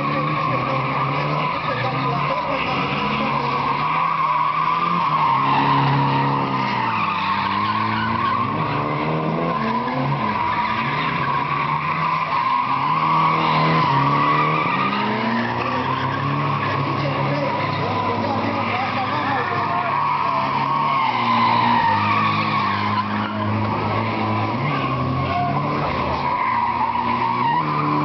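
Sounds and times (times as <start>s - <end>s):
diesel engine revving: 0.0s - 28.0s
tyres squealing on asphalt: 0.0s - 28.0s.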